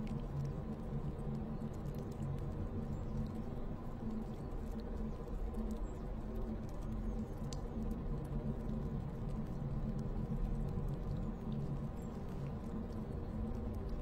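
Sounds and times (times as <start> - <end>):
faint ticks: 0.0 - 14.0.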